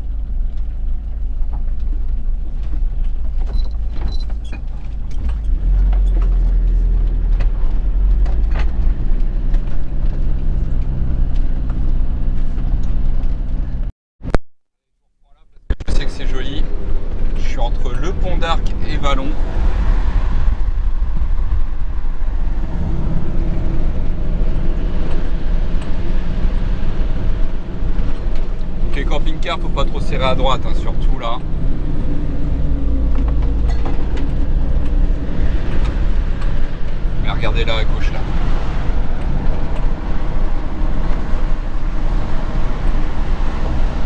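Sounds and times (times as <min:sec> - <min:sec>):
van engine and road rumble: 0:00.0 - 0:14.4, 0:15.1 - 0:44.0.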